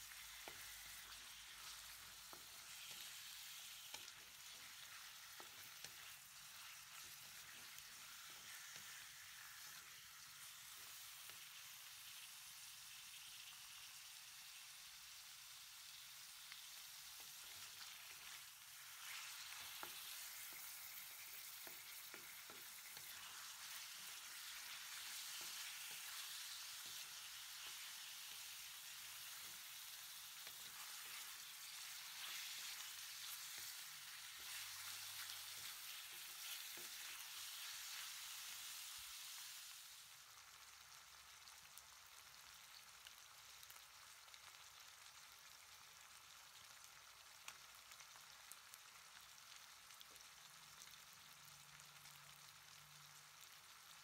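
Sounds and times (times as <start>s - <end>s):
meat and onion sizzling in oil: 0.0s - 54.0s.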